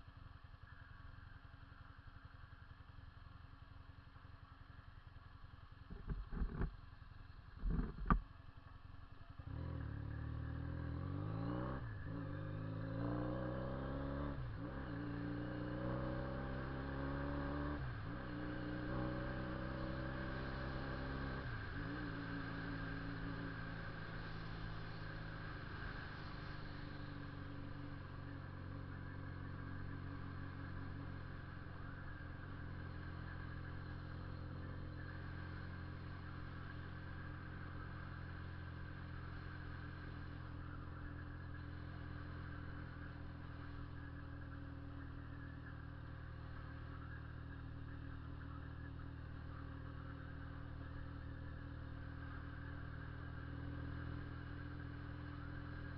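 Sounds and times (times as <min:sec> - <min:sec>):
motorcycle engine rumbling: 0:00.0 - 0:55.9.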